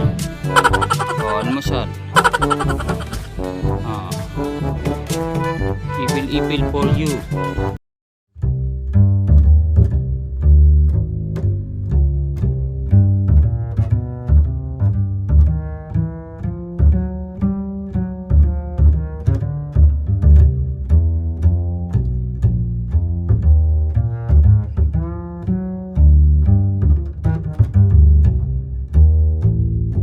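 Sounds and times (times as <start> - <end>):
plucked and bowed strings: 0.0 - 6.1, 8.4 - 30.0.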